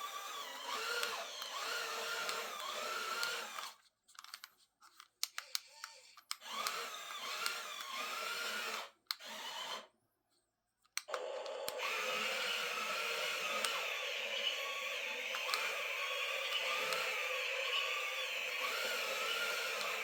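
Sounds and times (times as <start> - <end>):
toy motors whirring: 0.0 - 9.9, 11.0 - 20.0.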